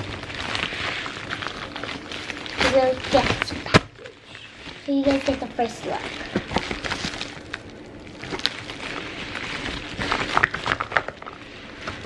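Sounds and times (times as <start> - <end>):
plastic bag crinkling: 0.0 - 12.0
sharp plastic crackles: 0.0 - 12.0.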